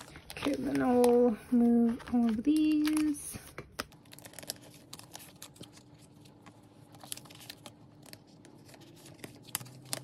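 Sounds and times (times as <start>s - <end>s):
paper cards rustling in plastic sleeves: 0.0s - 10.0s.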